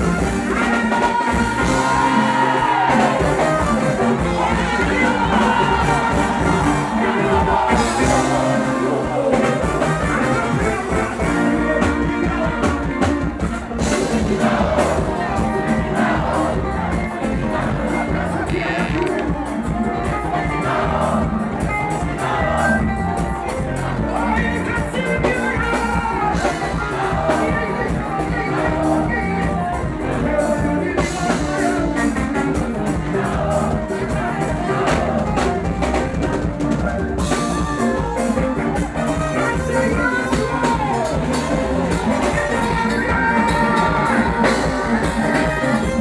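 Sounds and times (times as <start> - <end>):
drum beat: 0.0 - 46.0
lead singer singing: 0.0 - 46.0
live gospel band playing: 0.0 - 46.0.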